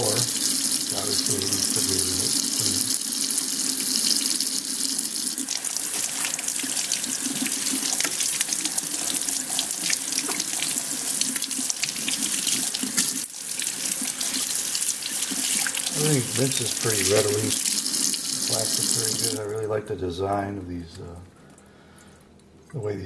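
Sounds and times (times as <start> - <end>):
tap water running into sink: 0.0 - 19.5.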